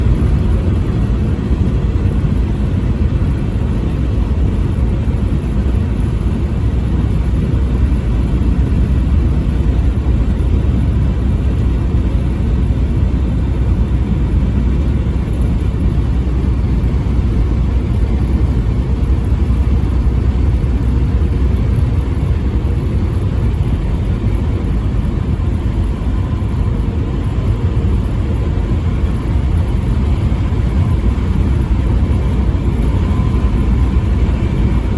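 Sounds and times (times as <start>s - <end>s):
vehicle rumbling in motion: 0.0s - 34.9s.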